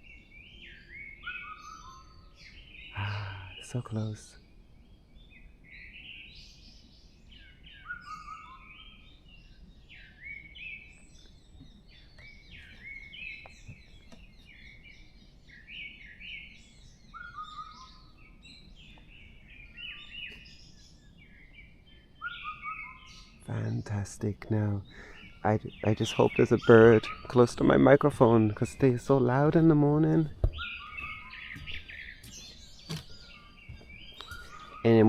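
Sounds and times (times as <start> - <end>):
low steady background hum: 0.0 - 35.0
songbirds chirping and whistling: 0.0 - 35.0.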